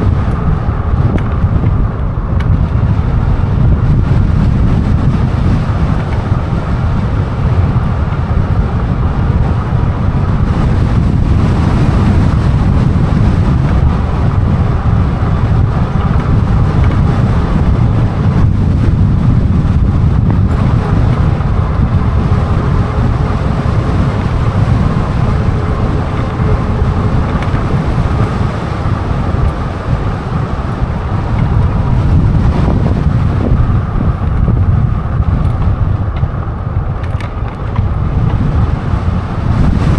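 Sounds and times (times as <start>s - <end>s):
faint steady whine: 0.0s - 36.6s
wind buffeting microphone: 0.0s - 39.9s.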